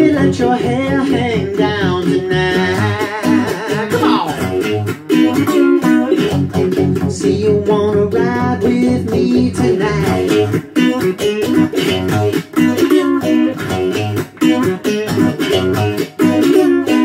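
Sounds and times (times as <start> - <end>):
electric guitar strummed chords: 0.0 - 17.0
low guitar riff: 0.0 - 17.0.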